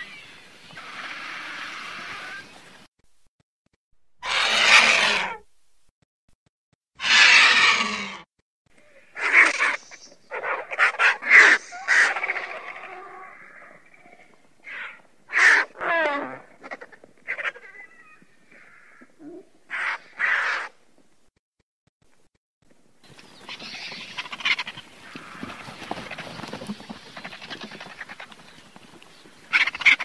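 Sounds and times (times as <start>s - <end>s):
vultures calling raspily: 0.0s - 2.7s, 4.2s - 5.5s, 7.0s - 20.8s, 23.0s - 30.0s.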